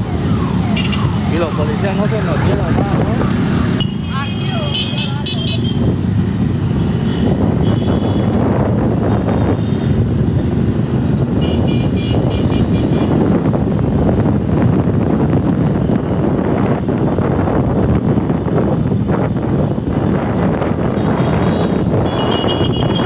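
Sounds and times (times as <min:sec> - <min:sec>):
motorcycle engines: 0:00.0 - 0:23.0
road noise: 0:00.0 - 0:23.0
wind buffeting microphone: 0:00.0 - 0:23.0.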